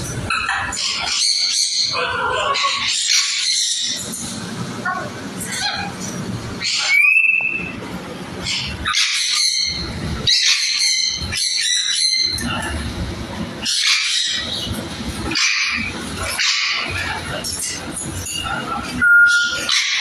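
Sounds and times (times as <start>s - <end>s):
parrots squawking and whistling: 0.1s - 4.4s, 5.4s - 7.8s, 8.4s - 12.8s, 13.6s - 20.0s.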